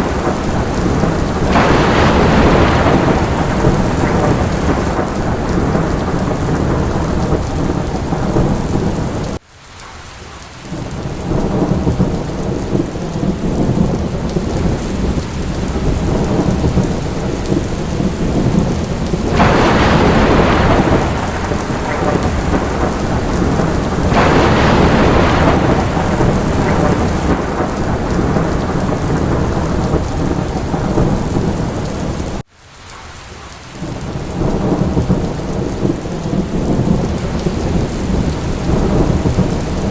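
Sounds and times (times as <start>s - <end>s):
rumble of thunder: 0.0s - 9.4s, 10.7s - 32.4s, 33.8s - 39.9s
steady rain: 0.0s - 39.9s.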